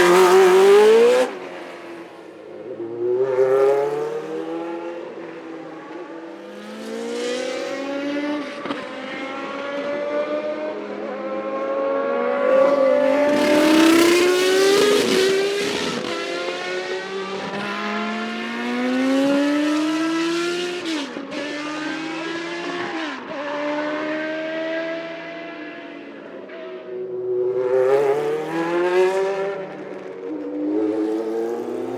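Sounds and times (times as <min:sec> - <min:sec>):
racing car engine at high revs: 0:00.0 - 0:31.9.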